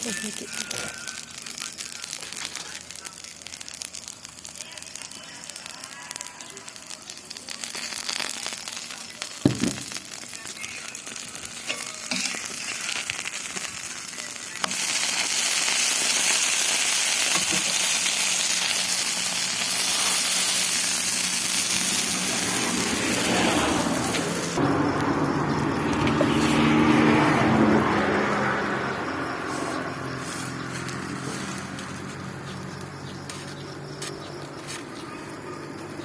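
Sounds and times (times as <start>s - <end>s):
food sizzling on a griddle: 0.0s - 36.0s.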